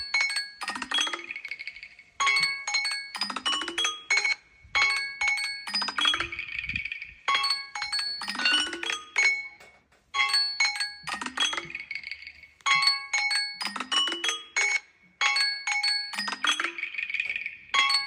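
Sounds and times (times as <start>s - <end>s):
mobile phone ringtone melody: 0.0s - 18.0s.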